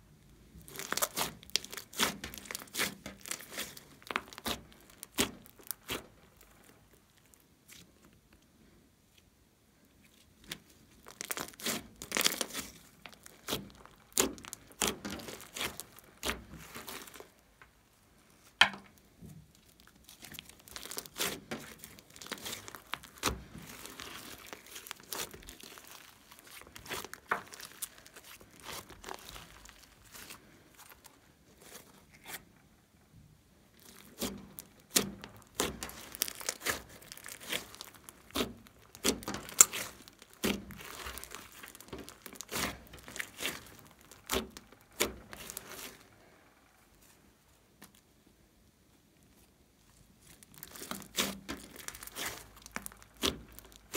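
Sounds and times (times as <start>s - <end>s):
slime crackling and popping: 0.4s - 8.5s, 10.1s - 32.5s, 33.6s - 48.1s, 49.2s - 53.9s.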